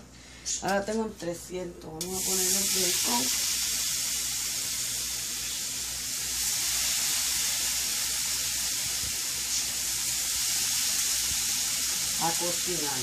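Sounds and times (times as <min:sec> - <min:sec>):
bacon sizzling on a griddle: 0:02.0 - 0:13.0.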